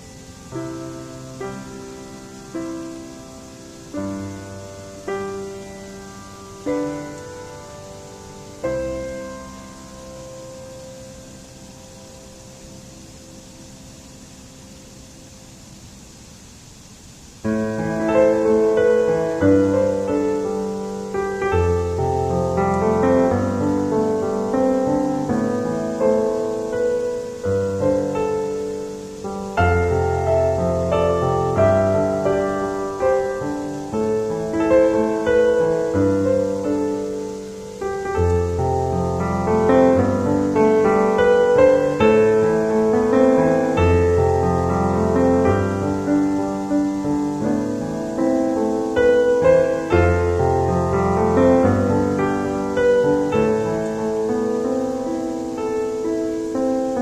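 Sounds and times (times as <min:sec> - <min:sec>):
slow piano music: 0:00.0 - 0:57.0.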